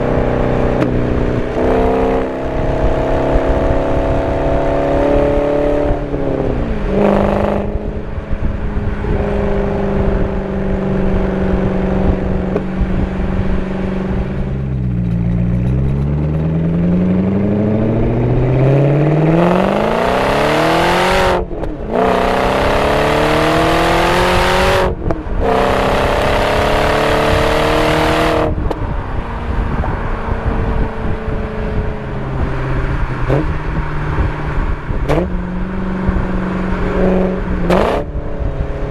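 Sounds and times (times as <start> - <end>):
car engine revving with upshifts: 0.0 - 38.9.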